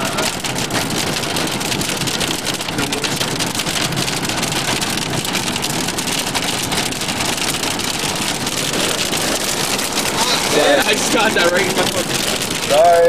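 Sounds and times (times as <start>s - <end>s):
car road noise: 0.0s - 13.0s
rain drumming on car roof: 0.0s - 13.0s.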